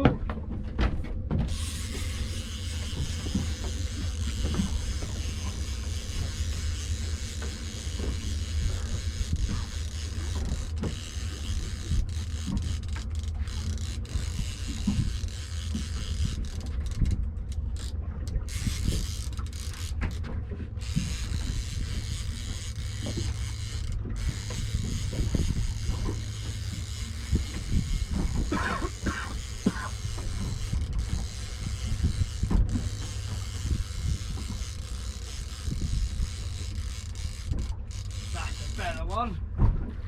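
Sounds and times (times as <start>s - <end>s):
steady low rumble: 0.0s - 40.0s
fishing reel clicking and creaking: 1.4s - 39.4s.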